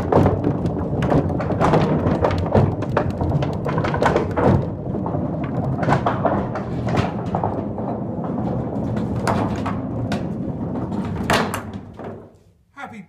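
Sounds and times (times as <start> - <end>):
balls rolling in wooden troughs: 0.0 - 12.6.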